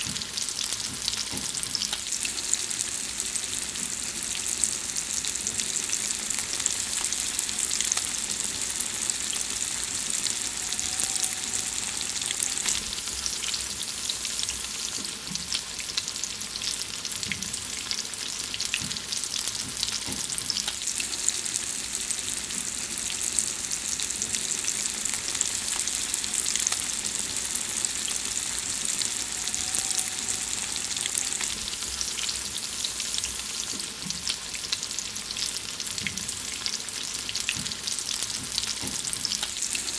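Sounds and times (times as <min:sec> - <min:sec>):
food sizzling in hot fat: 0:00.0 - 0:39.9.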